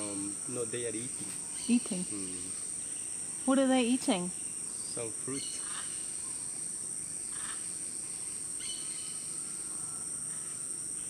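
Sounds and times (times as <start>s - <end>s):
faint bird chirps: 0.0s - 11.0s
insects droning: 0.0s - 11.0s.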